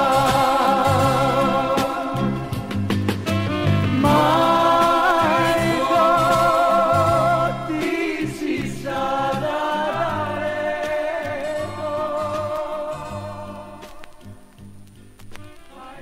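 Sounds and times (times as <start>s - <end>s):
pop ballad with bass line: 0.0s - 15.8s.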